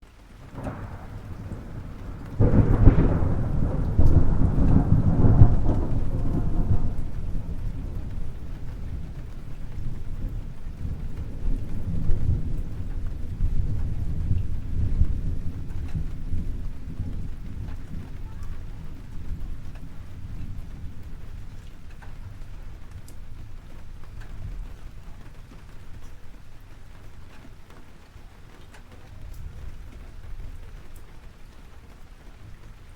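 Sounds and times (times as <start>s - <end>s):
rain: 0.0s - 32.9s
thunder rumbling: 0.0s - 32.9s.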